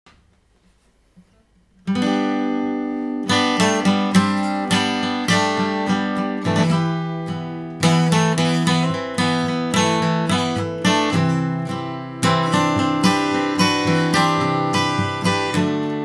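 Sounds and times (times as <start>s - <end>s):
acoustic guitar strumming: 1.2s - 16.0s.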